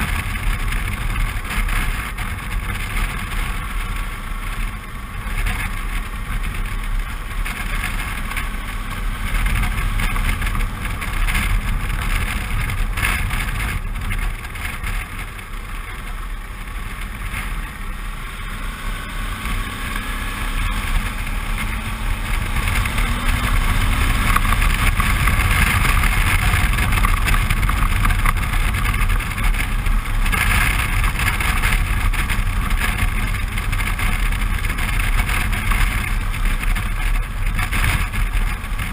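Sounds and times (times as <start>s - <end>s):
motorcycle engine running: 0.0s - 38.9s
rushing riding noise: 0.0s - 38.9s.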